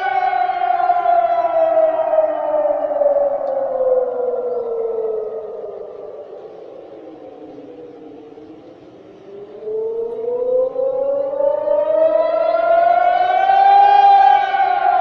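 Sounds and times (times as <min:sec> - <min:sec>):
air raid siren wailing: 0:00.0 - 0:15.0.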